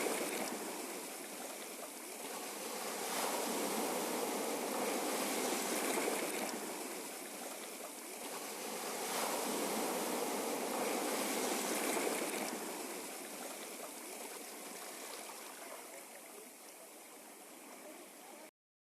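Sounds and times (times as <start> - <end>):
ocean waves washing: 0.0 - 18.4.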